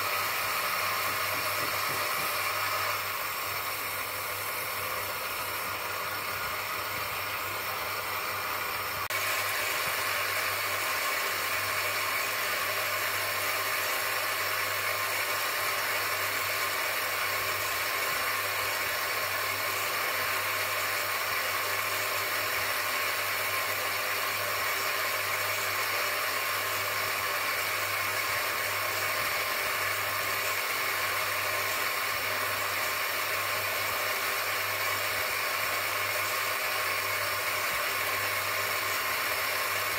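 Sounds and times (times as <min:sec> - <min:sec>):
bench grinder humming: 0:00.0 - 0:39.9
stone grinding hiss: 0:00.0 - 0:39.9.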